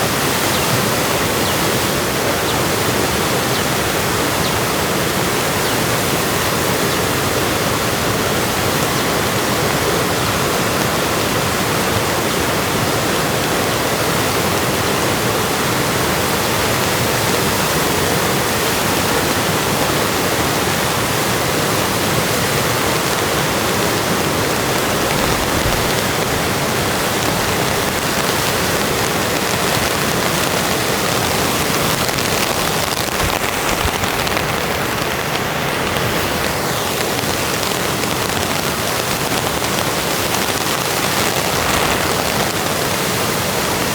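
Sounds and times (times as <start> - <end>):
river running in rain: 0.0 - 43.9.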